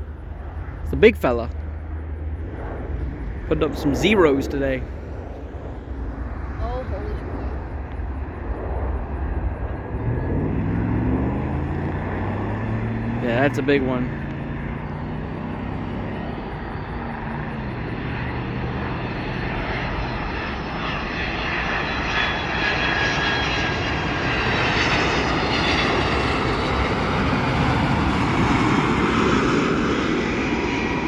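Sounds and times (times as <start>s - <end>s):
high engine whine: 0.0s - 31.0s
jet airliner passing: 0.0s - 31.0s.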